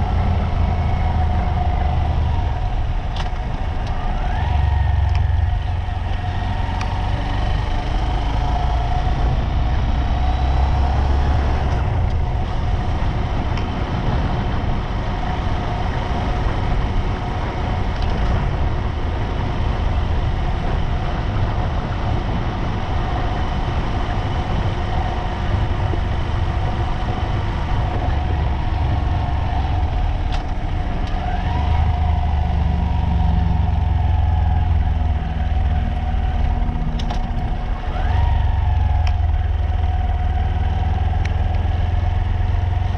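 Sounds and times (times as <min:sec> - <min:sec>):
vehicle engine and road noise: 0:00.0 - 0:42.9.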